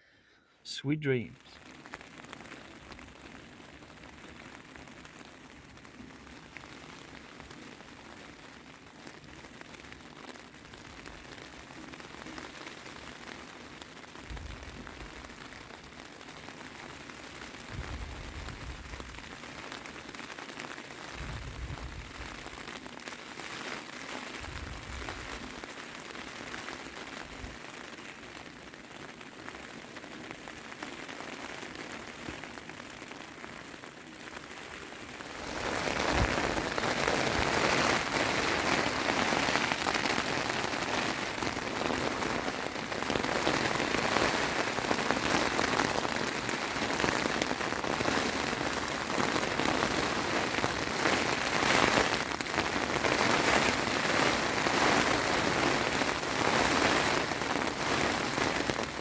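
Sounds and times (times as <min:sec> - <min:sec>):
rain on tent fabric: 0:00.0 - 0:59.0.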